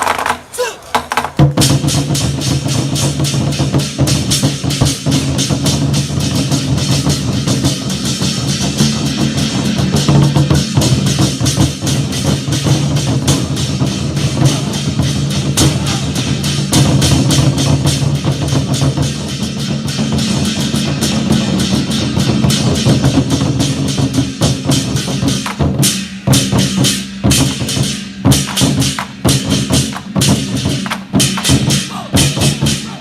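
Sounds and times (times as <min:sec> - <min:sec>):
war drums rolling and striking: 0:00.0 - 0:33.0.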